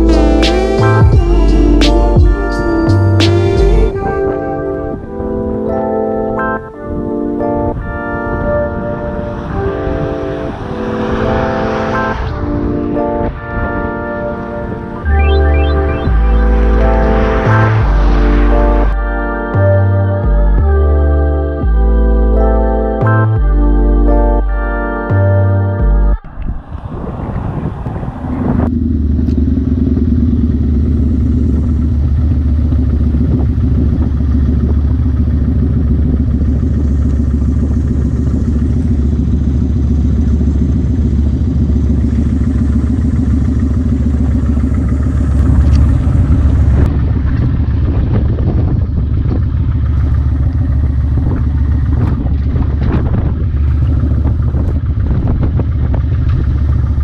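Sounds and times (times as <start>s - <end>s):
motorcycle engine drone: 0.0s - 24.6s, 25.2s - 57.0s.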